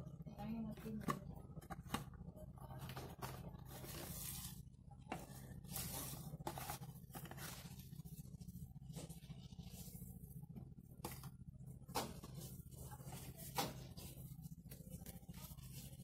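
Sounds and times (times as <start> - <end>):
steady low hum: 0.0 - 16.0
paper and cardboard rustling: 0.8 - 10.2, 11.0 - 16.0.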